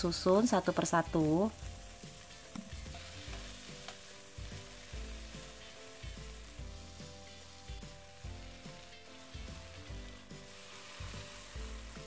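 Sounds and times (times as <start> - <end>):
shrimp sizzling in hot oil: 0.0 - 12.0
soft background music: 0.0 - 12.0.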